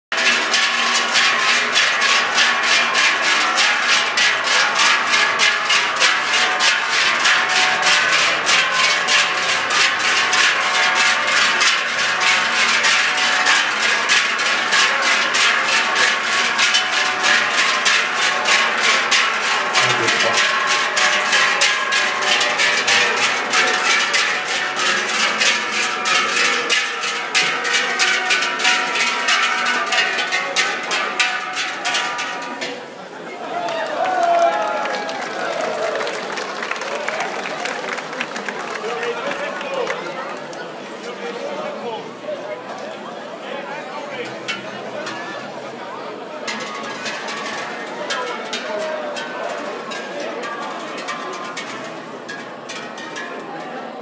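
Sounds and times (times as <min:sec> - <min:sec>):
cowbells clanging in rhythm: 0:00.1 - 0:33.3, 0:43.9 - 0:54.0.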